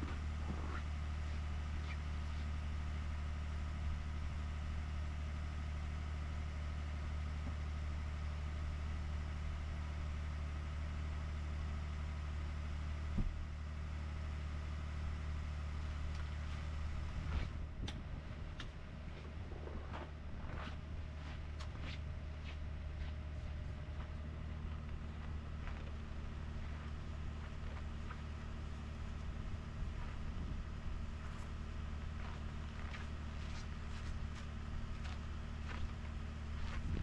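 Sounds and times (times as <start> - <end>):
truck engine idling: 0.0 - 37.0.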